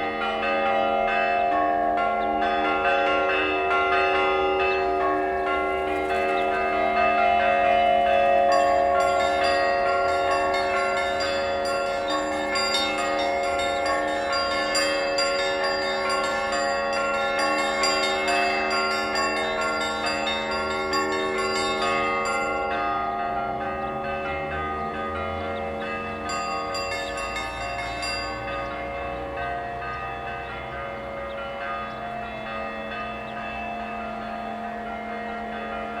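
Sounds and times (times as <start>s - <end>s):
church bells ringing: 0.0s - 36.0s.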